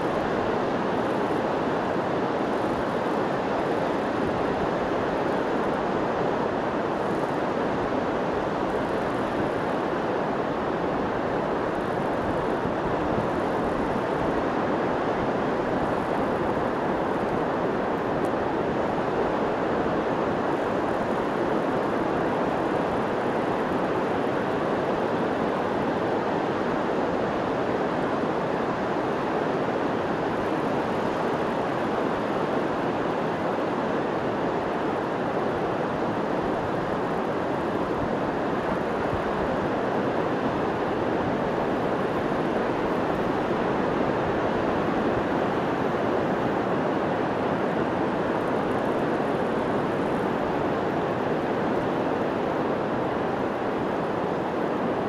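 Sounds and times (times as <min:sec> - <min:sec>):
ocean surf rushing: 0:00.0 - 0:55.0.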